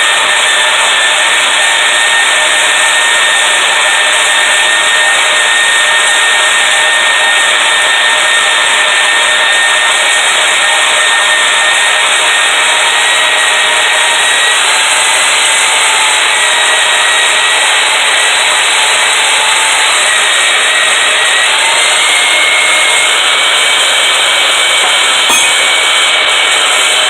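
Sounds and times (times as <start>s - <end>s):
power tool cutting steel: 0.0s - 27.0s.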